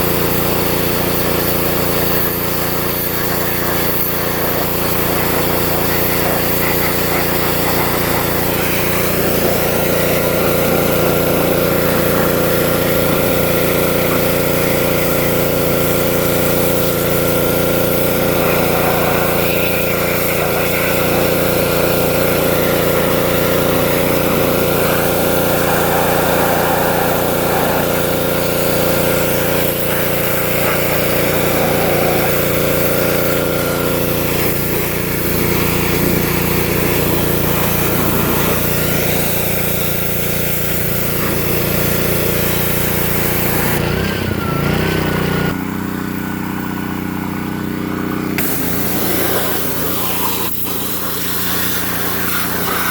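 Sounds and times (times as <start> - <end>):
high-pressure water spray hiss: 0.0 - 45.6, 47.9 - 52.9
pressure washer engine running: 0.0 - 52.9.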